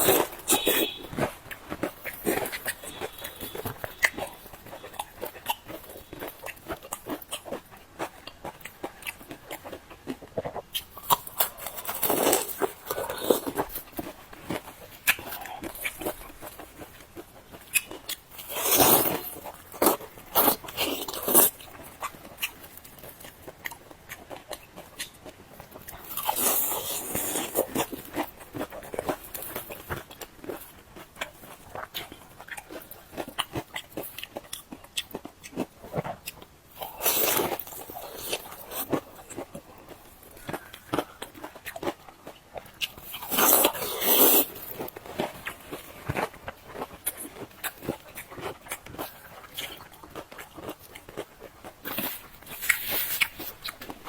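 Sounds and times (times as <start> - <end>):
crunchy chewing of fried dough: 0.0 - 54.0.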